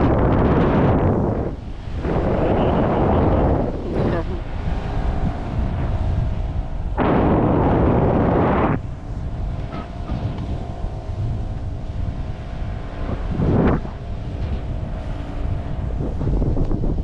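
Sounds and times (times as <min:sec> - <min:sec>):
loud rushing wind blast: 0:00.0 - 0:17.0
steady low drone: 0:00.0 - 0:17.0
wind buffeting microphone: 0:00.0 - 0:17.0.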